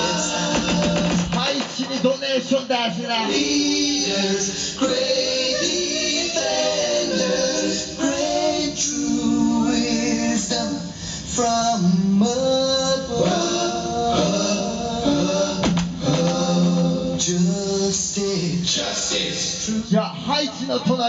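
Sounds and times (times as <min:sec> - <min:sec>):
reggae record over sound system: 0:00.0 - 0:21.0
vocals singing in harmony: 0:00.0 - 0:21.0.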